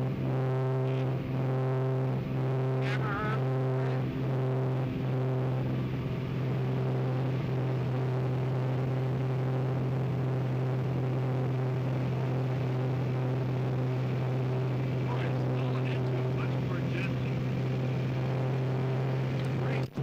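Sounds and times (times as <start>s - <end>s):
propeller aircraft engine drone: 0.0s - 20.0s.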